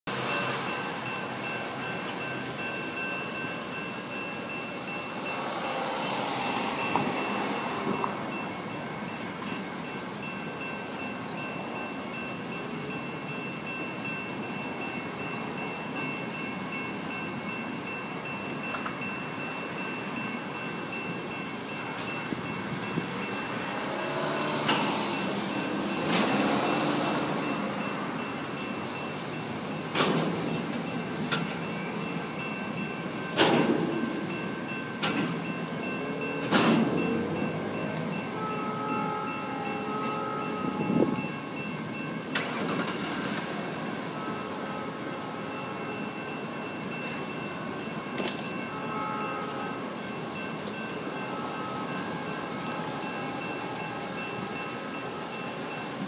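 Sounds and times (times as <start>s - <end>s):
freight cars rumbling: 0.1s - 56.0s.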